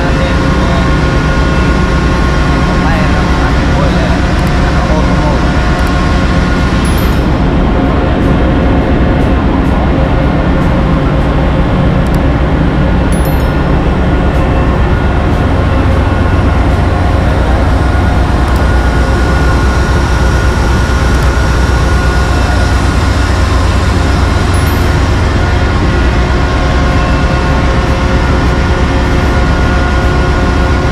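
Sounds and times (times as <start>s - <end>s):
constant hum tones: 0.0s - 30.9s
engine room machinery rumble: 0.0s - 30.9s.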